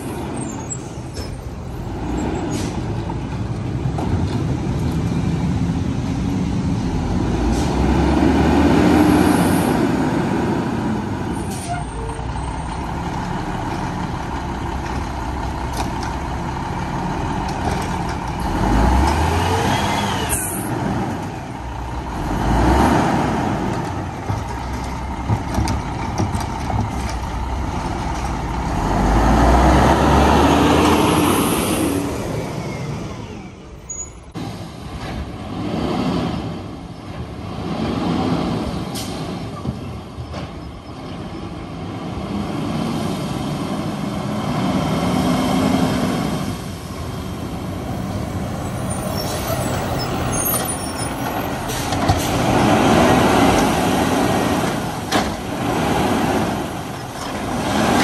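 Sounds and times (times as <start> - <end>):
diesel truck engine revving: 0.0 - 39.5, 41.0 - 58.0.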